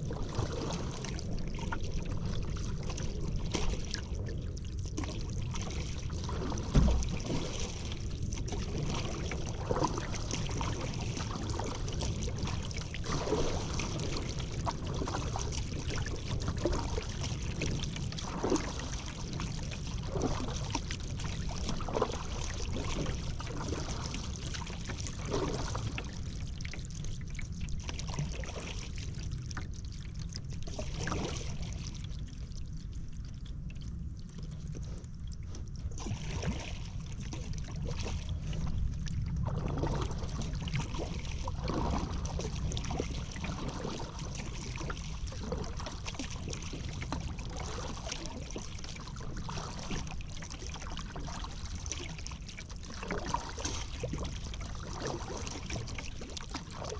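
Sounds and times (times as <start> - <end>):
paddle splashing in water: 0.0 - 4.2, 4.9 - 26.8, 30.6 - 32.1, 34.8 - 56.9.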